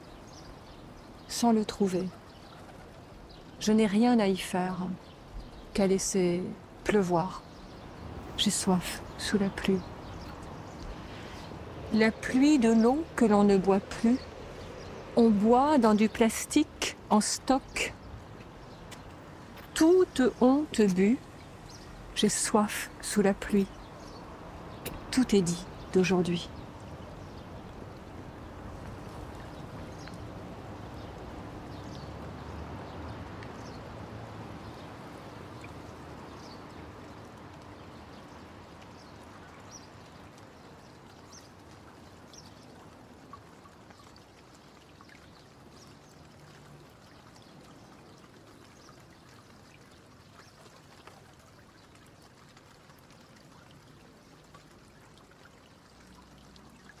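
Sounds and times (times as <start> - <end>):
falling rain: 0.0 - 57.0
trickling water: 0.0 - 57.0
water drips: 0.0 - 57.0.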